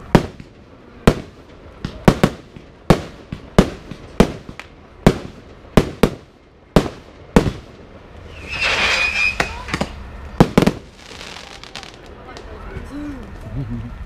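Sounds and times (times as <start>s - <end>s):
fireworks bangs: 0.0s - 12.5s
fireworks crackling: 0.0s - 13.5s.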